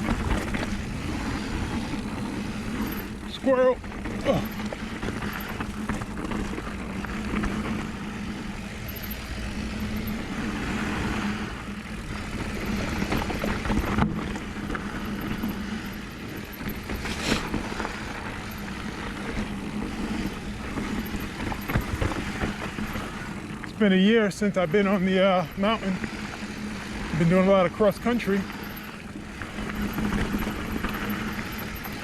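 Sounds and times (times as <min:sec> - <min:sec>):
bike knocks and rattles: 0:00.0 - 0:10.8, 0:12.0 - 0:23.8, 0:28.6 - 0:32.0
wind and tyre noise: 0:00.0 - 0:32.0.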